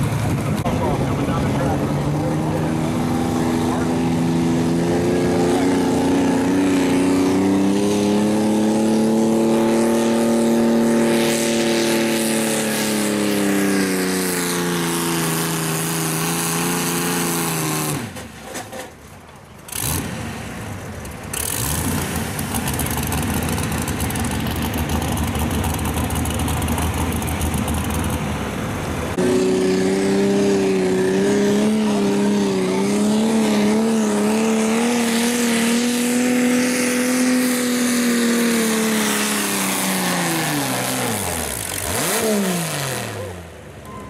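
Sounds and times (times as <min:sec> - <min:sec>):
tractor engines at full throttle: 0:00.0 - 0:44.0.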